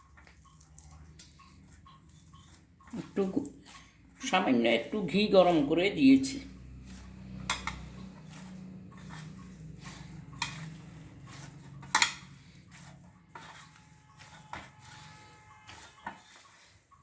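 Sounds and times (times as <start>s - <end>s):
utensils clinking on metal plate: 0.0s - 17.0s.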